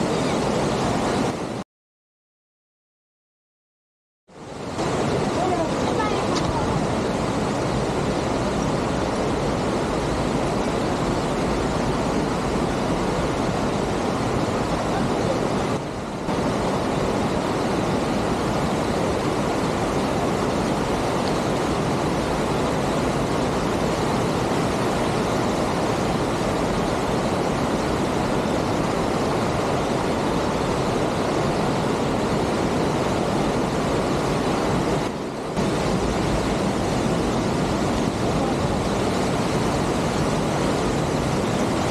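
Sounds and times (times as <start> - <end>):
creek rushing over rocks: 0.0 - 1.6, 4.4 - 41.9.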